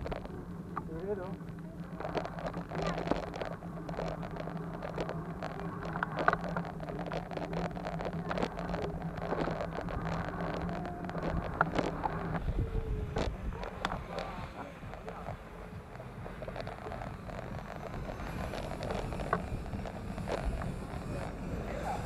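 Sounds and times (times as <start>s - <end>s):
bicycle rattling over rough concrete: 0.0s - 22.0s
steady low hum: 0.0s - 22.0s
wind on microphone: 1.4s - 22.0s.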